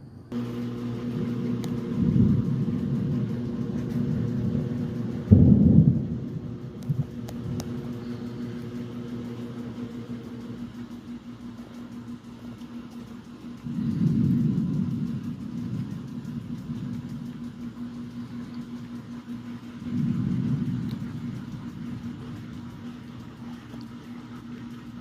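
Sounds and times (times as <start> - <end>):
washing machine hum: 0.0 - 25.0
thunder rumbling: 0.3 - 12.2, 13.2 - 25.0.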